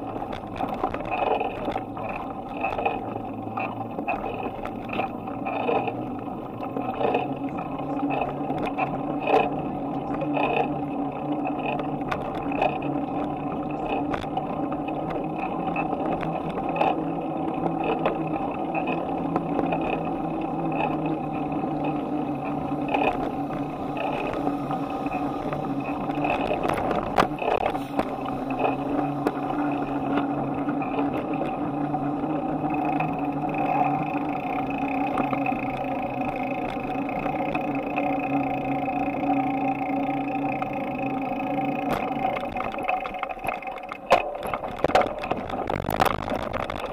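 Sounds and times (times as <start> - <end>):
bicycle riding hum: 0.0 - 46.9
bicycle ticks and rattles: 0.0 - 46.9.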